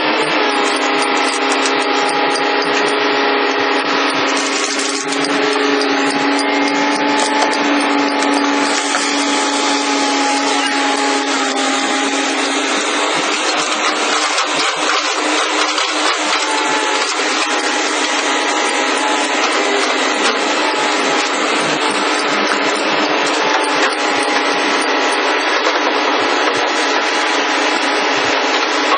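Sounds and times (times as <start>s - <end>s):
hydraulic machinery drone: 0.0s - 28.9s.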